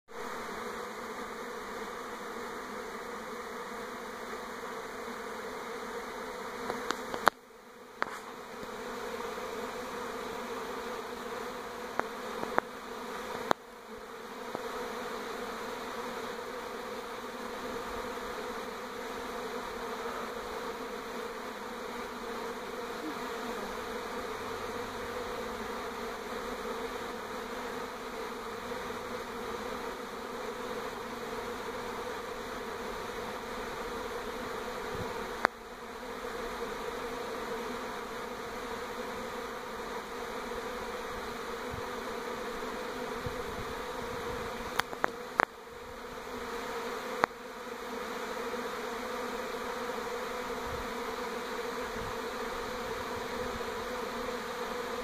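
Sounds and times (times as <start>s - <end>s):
bee swarm buzzing: 0.1s - 55.0s.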